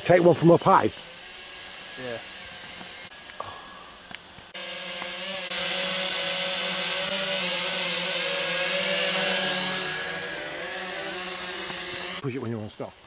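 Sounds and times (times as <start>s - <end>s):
drone buzzing whine: 0.0s - 13.0s.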